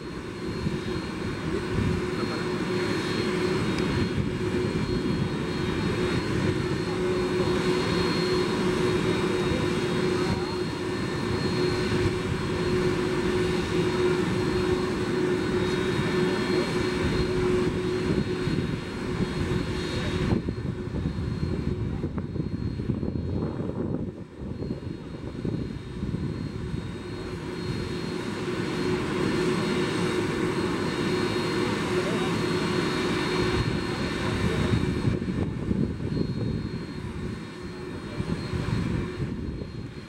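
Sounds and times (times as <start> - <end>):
jet engines idling: 0.0 - 40.0.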